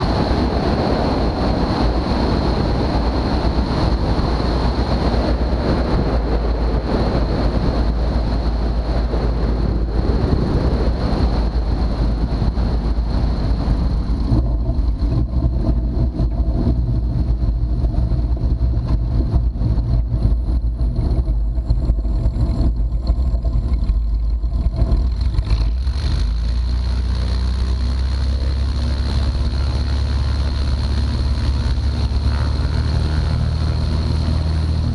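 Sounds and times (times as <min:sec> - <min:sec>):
airplane engine and propeller drone: 0:00.0 - 0:34.9
broad rushing noise: 0:00.0 - 0:34.9.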